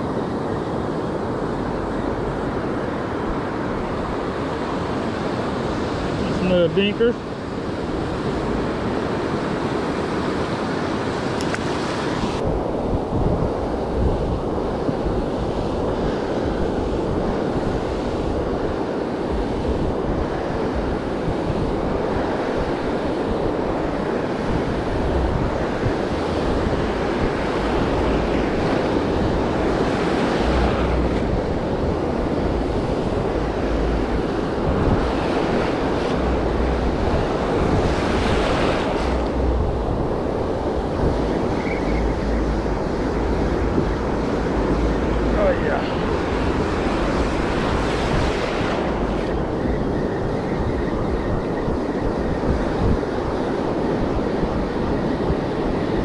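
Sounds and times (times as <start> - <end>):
ocean surf rushing: 0.0 - 56.0
wind rumbling on microphone: 0.0 - 56.0.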